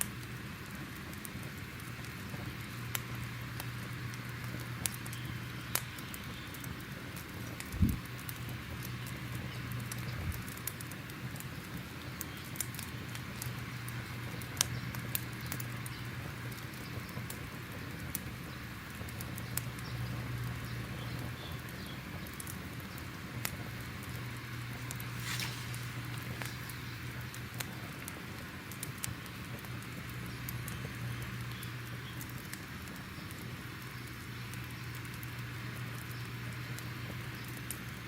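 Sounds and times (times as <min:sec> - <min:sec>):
fire low rumble and hiss: 0:00.0 - 0:38.0
fire popping and snapping: 0:00.0 - 0:38.0.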